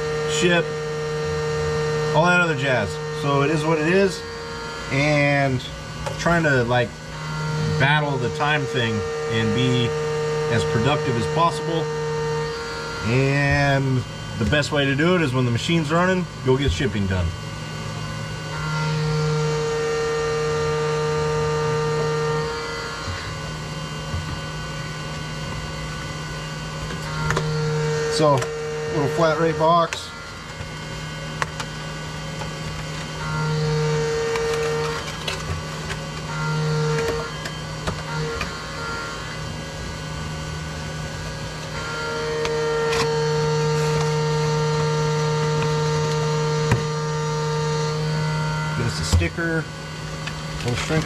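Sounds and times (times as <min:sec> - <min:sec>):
milling machine humming: 0:00.0 - 0:51.0.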